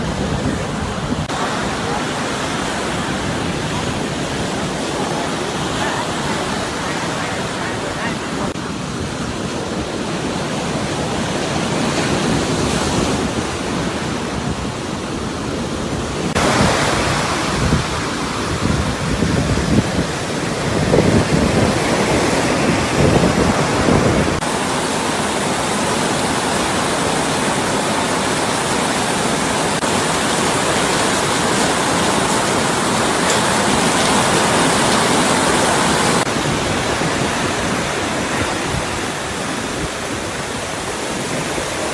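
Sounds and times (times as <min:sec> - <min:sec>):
rough surf: 0:00.0 - 0:41.9
strong wind: 0:00.0 - 0:41.9
wind gusts buffeting microphone: 0:00.0 - 0:41.9.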